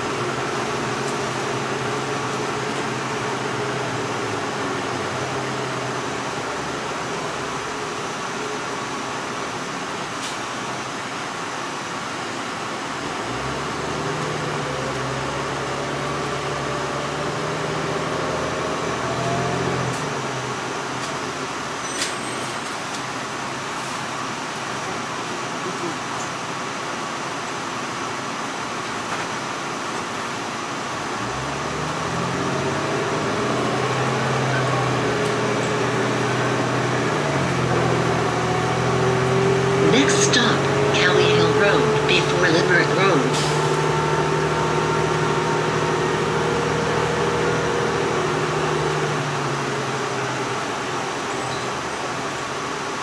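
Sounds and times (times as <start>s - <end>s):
bus engine hum: 0.0s - 53.0s.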